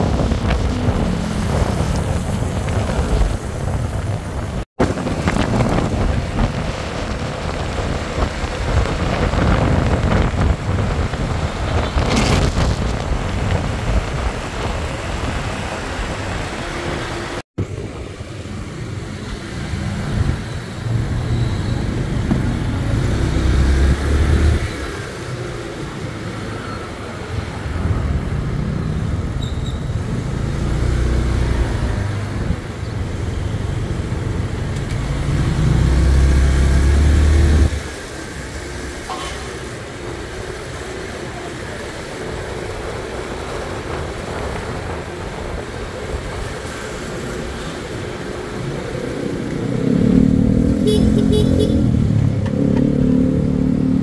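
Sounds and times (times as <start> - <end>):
motorcycle engine and road rumble: 0.0 - 54.0
passing cars and scooters: 0.0 - 54.0.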